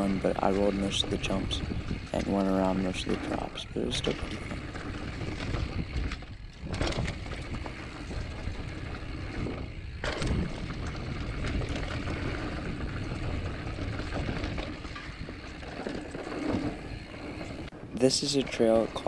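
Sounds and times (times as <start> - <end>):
bike clattering over bumps: 0.0 - 19.0
bike tyres on dirt: 0.0 - 19.0
wind rumble: 0.0 - 19.0.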